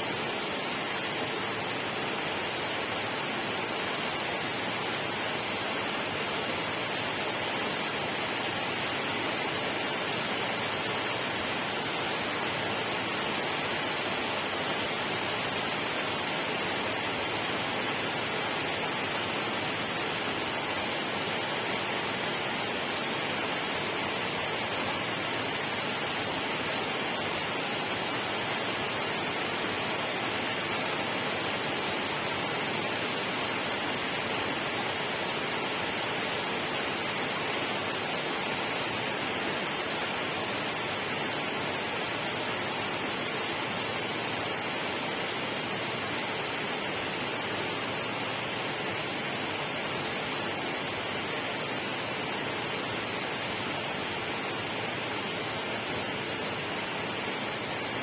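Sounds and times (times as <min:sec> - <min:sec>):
rushing water hiss: 0:00.0 - 0:58.0.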